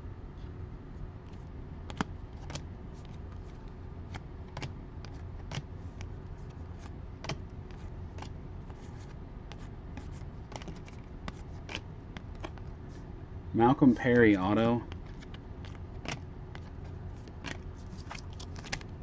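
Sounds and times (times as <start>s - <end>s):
low steady hum: 0.0s - 19.0s
trading cards flipped by hand: 1.3s - 12.7s, 14.9s - 19.0s.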